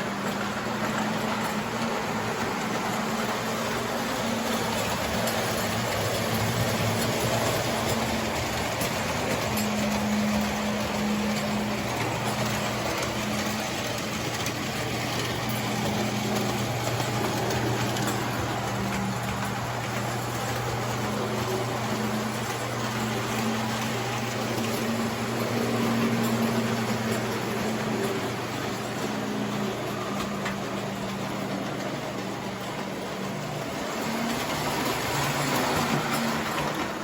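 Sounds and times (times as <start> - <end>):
toy train motor hum: 0.0 - 37.0
wheels rumbling on rail: 0.0 - 37.0.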